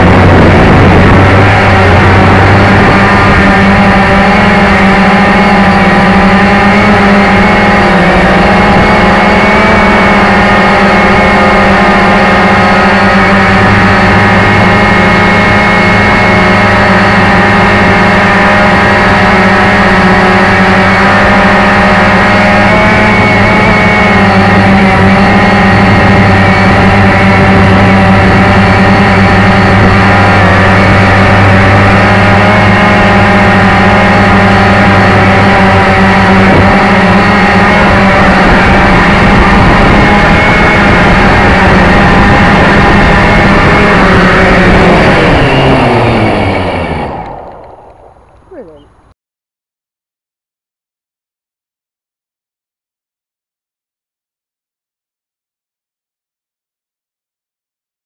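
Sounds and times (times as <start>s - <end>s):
model aircraft motor and propeller drone: 0.0s - 49.1s.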